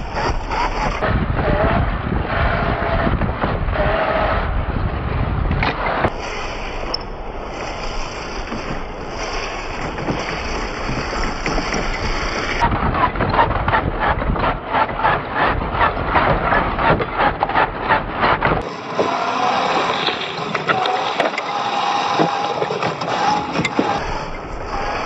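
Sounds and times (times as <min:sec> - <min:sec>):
toy car tyres crunching on dirt: 0:00.0 - 0:04.3, 0:05.9 - 0:25.0.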